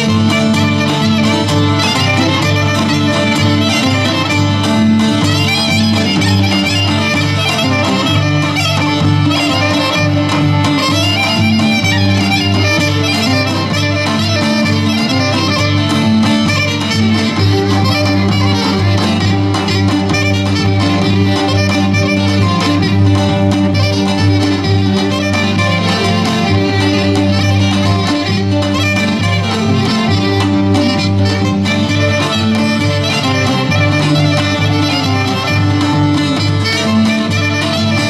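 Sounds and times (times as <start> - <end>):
folk dance music over loudspeakers: 0.0 - 38.0.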